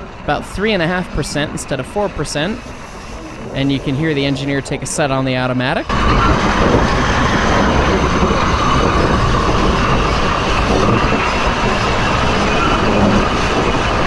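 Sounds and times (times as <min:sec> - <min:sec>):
steel wheel grinding on rail: 0:00.0 - 0:14.0.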